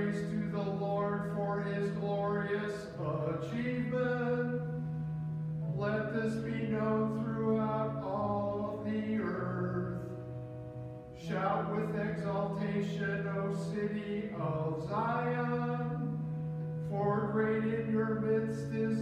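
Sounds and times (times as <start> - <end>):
sustained accompaniment: 0.0 - 19.0.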